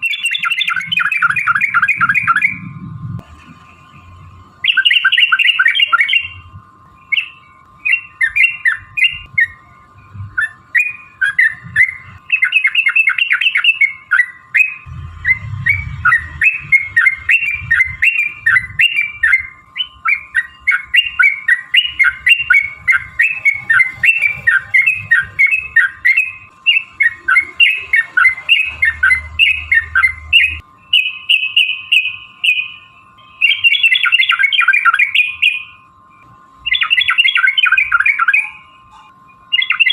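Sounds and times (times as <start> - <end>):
bird chattering song: 0.0 - 2.7, 4.6 - 9.7, 10.3 - 32.8, 33.4 - 35.8, 36.6 - 39.9
faint steady hum: 0.0 - 39.9.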